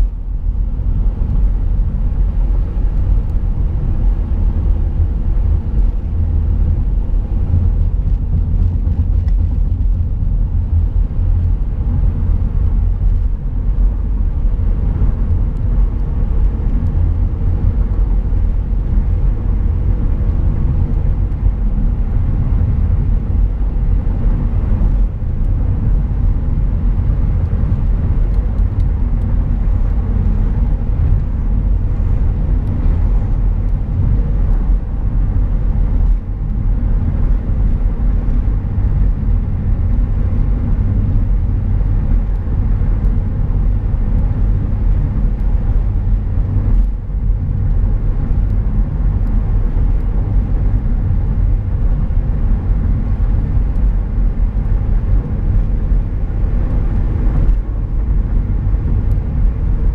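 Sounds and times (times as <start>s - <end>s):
road and tyre noise in car: 0.0s - 59.9s.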